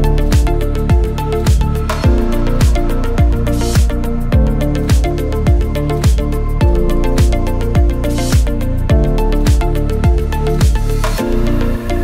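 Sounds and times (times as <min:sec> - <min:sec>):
kick drum beat: 0:00.0 - 0:10.8.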